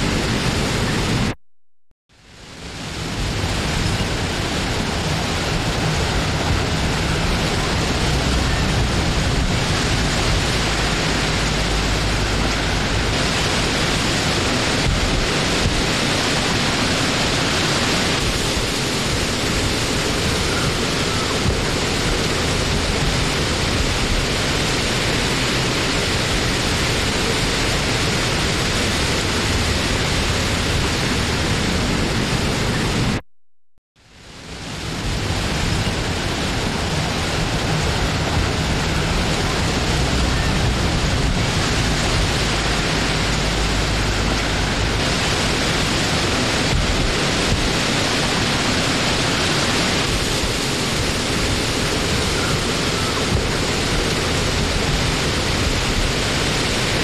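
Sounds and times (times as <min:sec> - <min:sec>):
wind blowing: 0:00.0 - 0:01.4, 0:02.2 - 0:33.2, 0:34.1 - 0:57.0.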